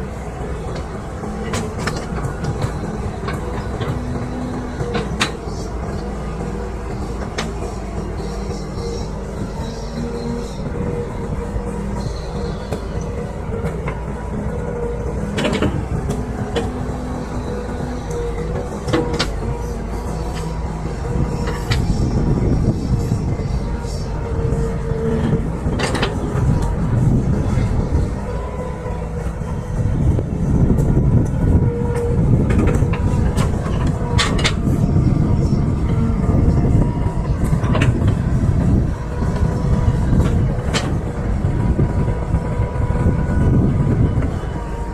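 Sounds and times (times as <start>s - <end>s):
diesel engine running: 0.0s - 44.9s
hydraulic whine: 0.0s - 44.9s.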